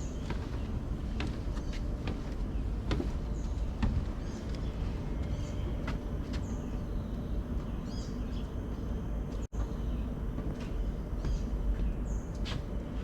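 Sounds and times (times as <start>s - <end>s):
small birds chirping: 0.0s - 12.4s.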